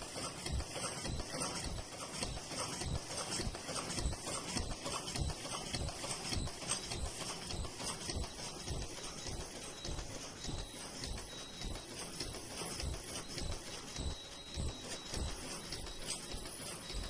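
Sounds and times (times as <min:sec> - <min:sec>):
machine mechanical knocking: 0:00.0 - 0:17.0.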